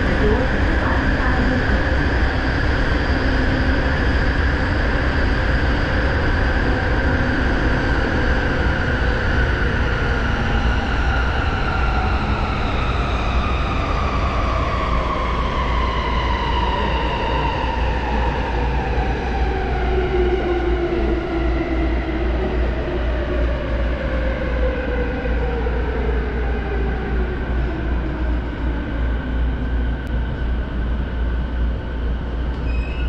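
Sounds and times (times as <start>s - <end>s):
train running rumble: 0.0s - 33.0s.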